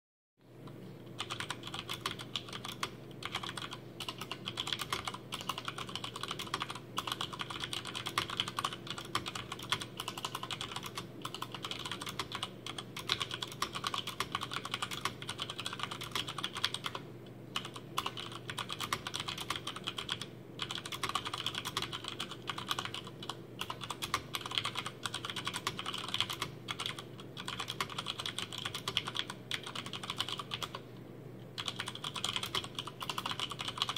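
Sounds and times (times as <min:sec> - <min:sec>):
faint steady hum: 0:00.4 - 0:33.9
fast typing on mechanical keyboard: 0:01.2 - 0:17.0, 0:17.6 - 0:30.8, 0:31.6 - 0:33.9.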